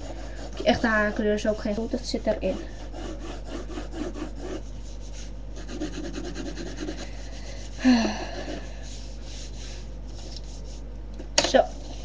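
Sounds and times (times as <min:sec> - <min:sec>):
pencil shading on paper: 0:00.0 - 0:07.8, 0:08.4 - 0:10.8.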